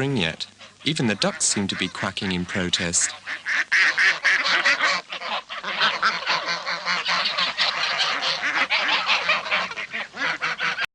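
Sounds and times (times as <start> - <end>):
ducks quacking: 0.0 - 10.9.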